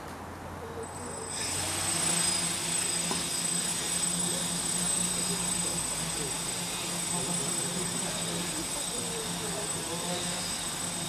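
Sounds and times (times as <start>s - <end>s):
quadcopter propellers whining: 0.8s - 11.0s.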